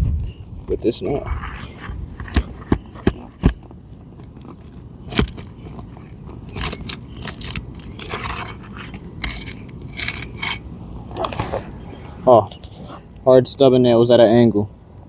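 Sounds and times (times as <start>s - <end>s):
tool scraping under shingle: 1.0s - 13.1s.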